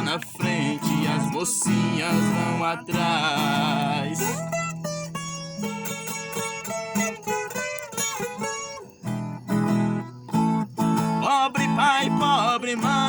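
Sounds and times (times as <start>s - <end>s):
acoustic guitar picking melody: 0.0s - 13.0s.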